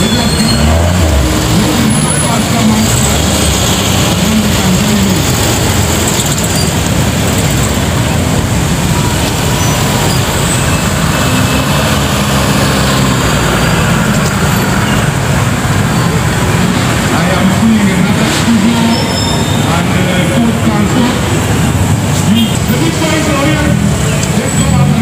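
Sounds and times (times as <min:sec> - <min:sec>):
car engines driving past: 0:00.0 - 0:25.0.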